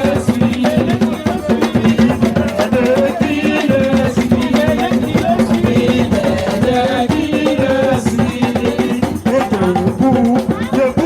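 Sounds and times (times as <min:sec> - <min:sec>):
live band playing gospel music: 0:00.0 - 0:10.9
drums and hand percussion: 0:00.0 - 0:11.0.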